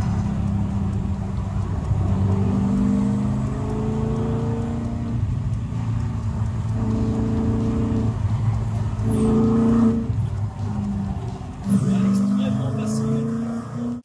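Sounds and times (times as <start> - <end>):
steady low rumble: 0.0 - 13.7
car engine at speed: 0.0 - 14.0.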